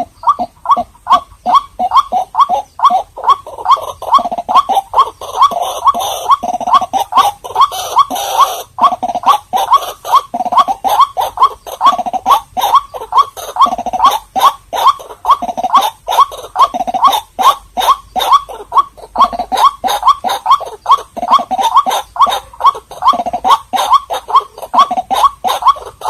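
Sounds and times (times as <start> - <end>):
bird calling rapid notes: 0.0 - 26.0.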